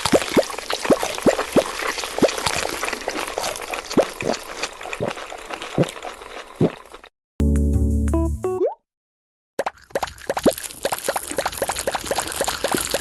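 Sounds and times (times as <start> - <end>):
crackling fizz: 0.0 - 7.1, 9.6 - 13.0
liquid bubbling and plopping: 0.0 - 7.1, 9.6 - 13.0.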